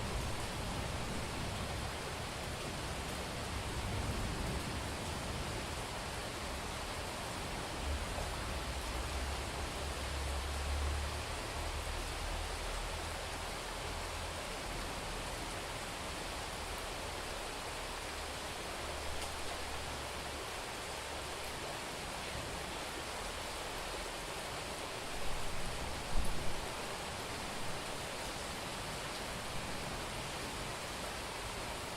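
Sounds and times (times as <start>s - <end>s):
heavy rain on a street: 0.0s - 31.9s.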